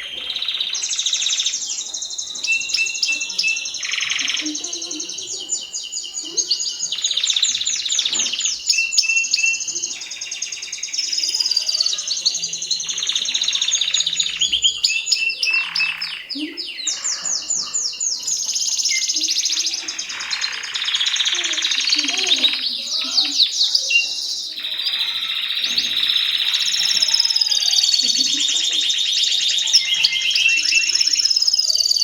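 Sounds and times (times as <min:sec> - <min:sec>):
canary singing fast trills: 0:00.0 - 0:32.0.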